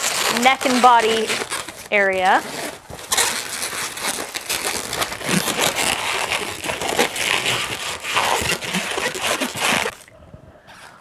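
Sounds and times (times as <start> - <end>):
balloons rubbing and squeezing: 0.0 - 10.0.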